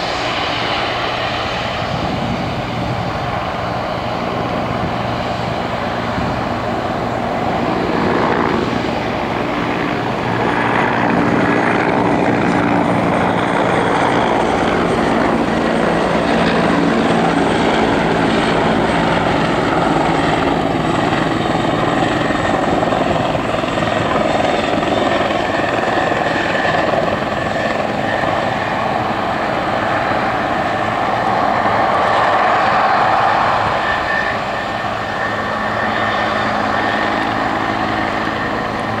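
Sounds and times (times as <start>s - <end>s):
jet engine roar with whine: 0.0s - 39.0s.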